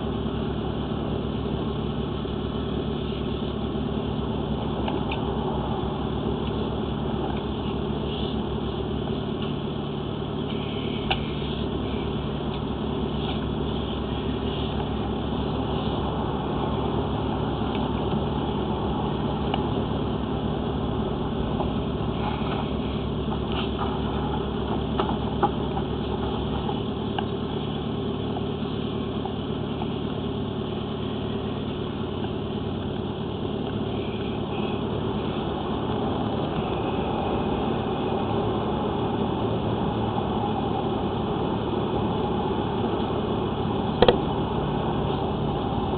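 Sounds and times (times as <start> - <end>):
motor humming steadily: 0.0 - 45.9.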